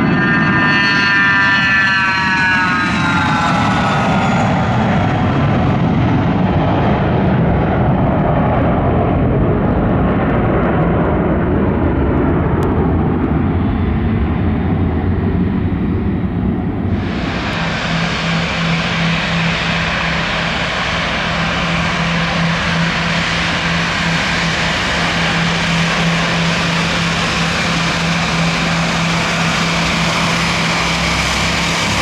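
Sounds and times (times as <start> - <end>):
jet aircraft passing: 0.0 - 32.0.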